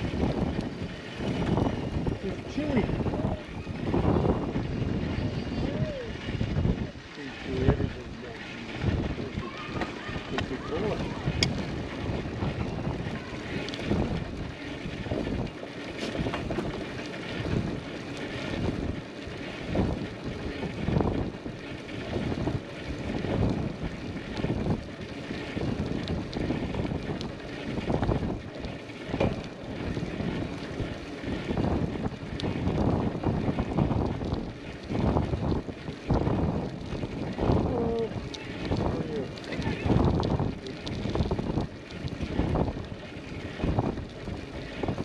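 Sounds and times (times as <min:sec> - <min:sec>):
bicycle rolling noise: 0:00.0 - 0:45.0
wind buffeting microphone: 0:00.0 - 0:45.0.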